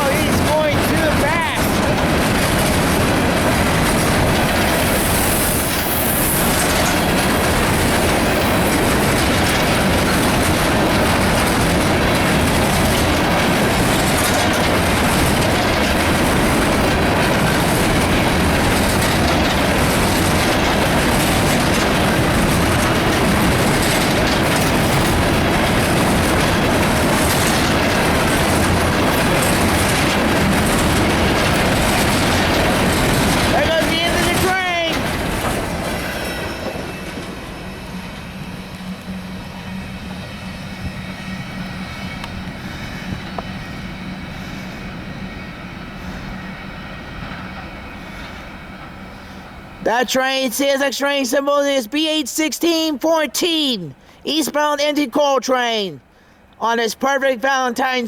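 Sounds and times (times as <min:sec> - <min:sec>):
train cars rolling past: 0:00.0 - 0:52.9.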